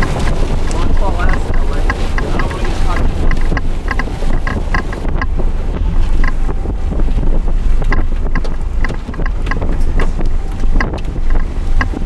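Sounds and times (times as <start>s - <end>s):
wind buffeting microphone: 0.0s - 12.0s
sharp ticks: 0.6s - 5.4s, 6.0s - 12.0s.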